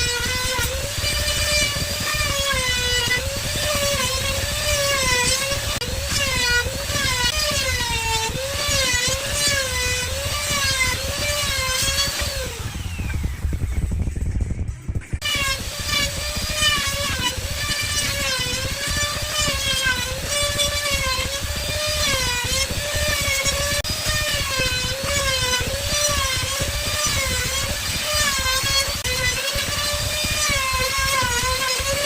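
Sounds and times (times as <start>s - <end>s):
motor whining: 0.0s - 32.0s.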